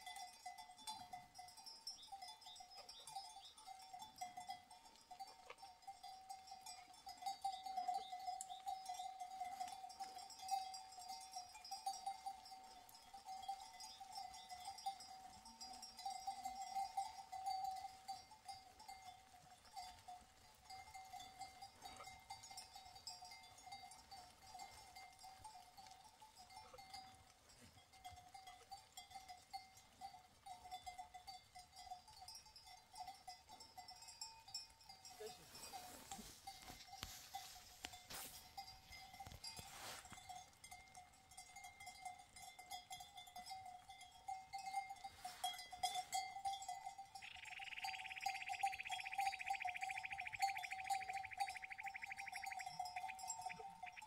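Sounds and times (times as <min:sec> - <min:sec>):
livestock bells jingling: 0:00.0 - 0:54.0.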